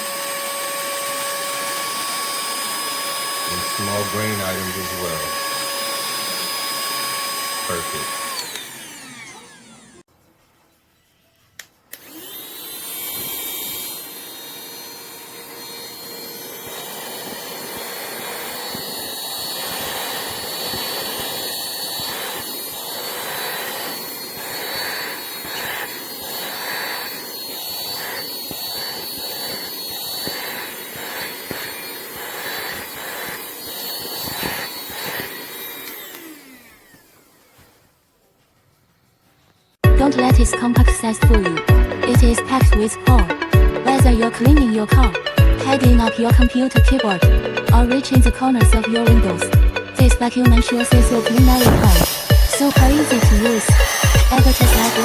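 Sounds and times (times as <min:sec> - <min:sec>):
handheld vacuum cleaner whining: 0:00.0 - 0:38.4, 0:39.5 - 0:55.0.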